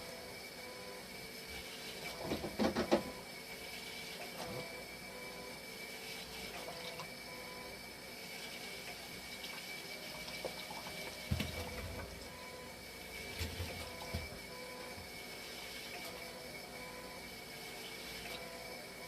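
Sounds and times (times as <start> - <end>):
machine pumping with steady whine: 0.0 - 19.0.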